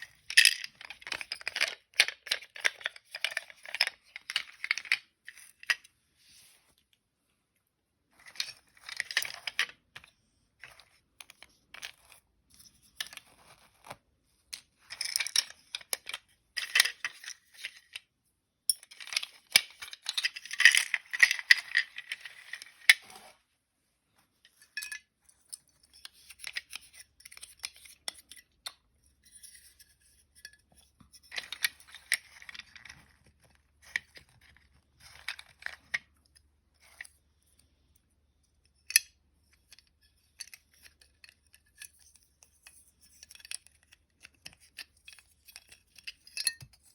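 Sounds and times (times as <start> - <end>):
toy parts clicking and rattling: 0.0 - 5.9, 8.2 - 13.5, 14.5 - 18.1, 18.7 - 23.0, 24.5 - 46.9.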